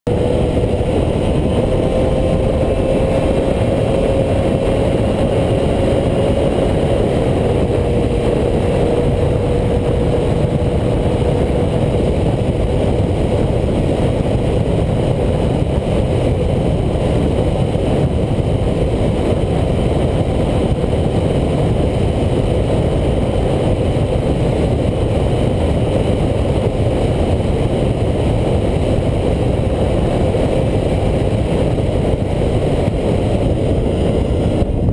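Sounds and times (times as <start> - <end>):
heavy wind rush: 0.0 - 34.9
motorcycle engine high-pitched whine: 0.1 - 34.9.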